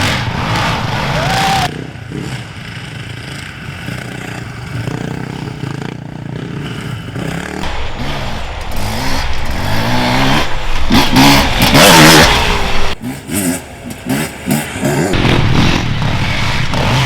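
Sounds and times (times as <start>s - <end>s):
motorcycles revving past: 0.0s - 17.0s.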